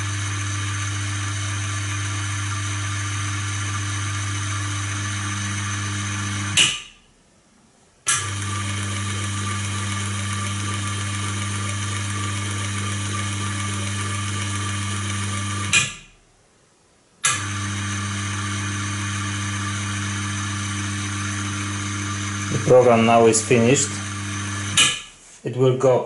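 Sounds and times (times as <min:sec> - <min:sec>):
electric motor hum and whine: 0:00.0 - 0:07.0, 0:08.1 - 0:16.1, 0:17.2 - 0:25.1.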